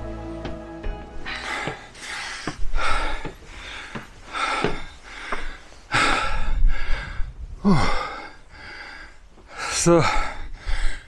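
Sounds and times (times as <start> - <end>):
man breathing hard: 1.2 - 11.0.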